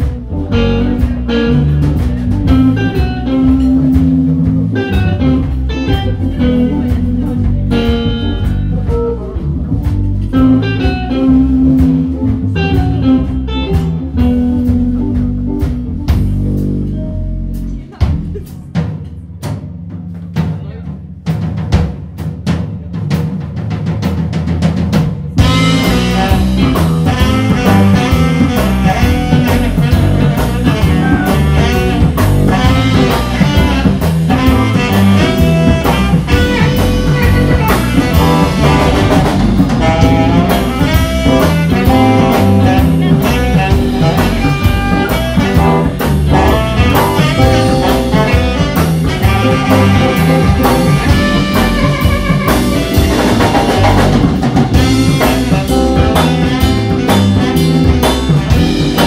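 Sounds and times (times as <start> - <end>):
saxophone solo: 0.0 - 17.7, 25.4 - 59.0
band accompaniment: 0.0 - 59.0
drum kit: 0.0 - 59.0.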